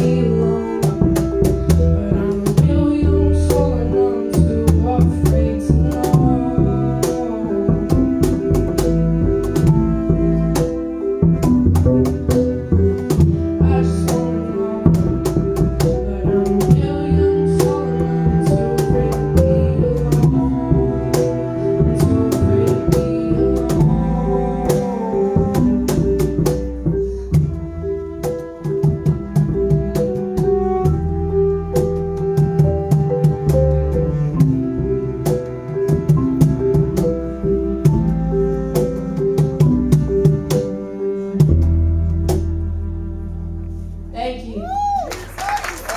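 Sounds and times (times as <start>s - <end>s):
mallet keyboard notes: 0.0s - 43.2s
flute melody: 0.0s - 43.8s
bowed cello: 0.0s - 45.0s
bass notes: 0.0s - 45.9s.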